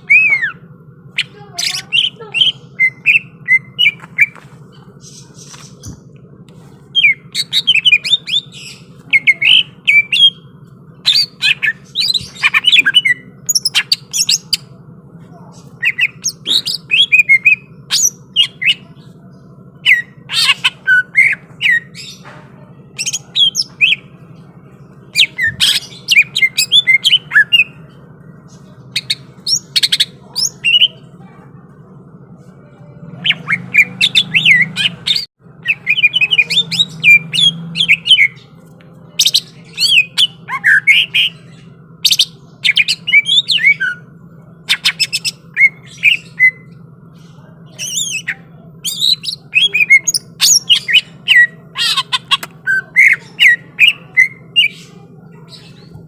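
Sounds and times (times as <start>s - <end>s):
bird chirping and squawking: 0.0s - 14.8s, 15.6s - 31.1s, 33.2s - 56.0s
steady low hum: 0.0s - 56.0s.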